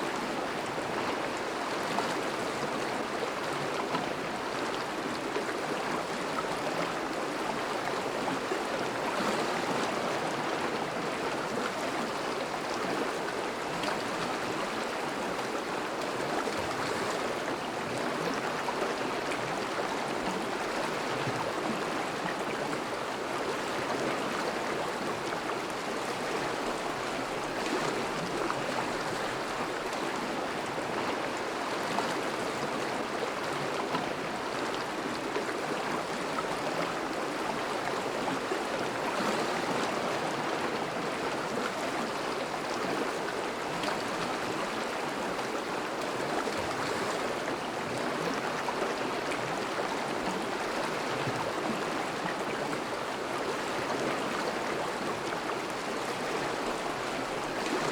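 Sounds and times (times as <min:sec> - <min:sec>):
river water rushing and gurgling: 0:00.0 - 0:57.9.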